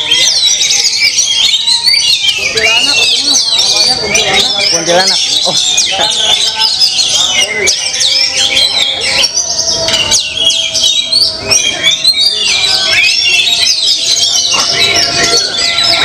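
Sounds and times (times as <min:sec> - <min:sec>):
songbirds chorus: 0:00.0 - 0:16.0.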